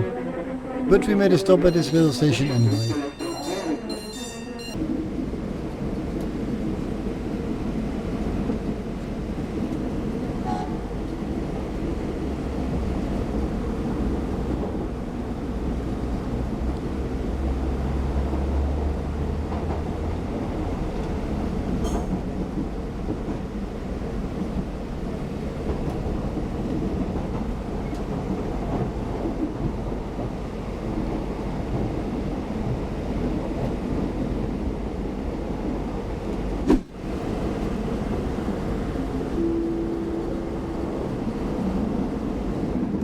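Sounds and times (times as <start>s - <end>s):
electric train rumbling on track: 0.0s - 43.0s.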